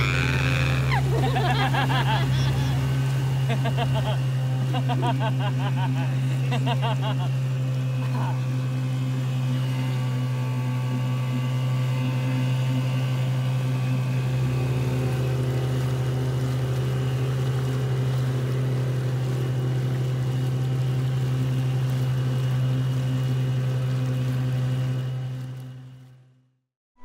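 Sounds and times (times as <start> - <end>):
outboard motor running: 0.0 - 26.6.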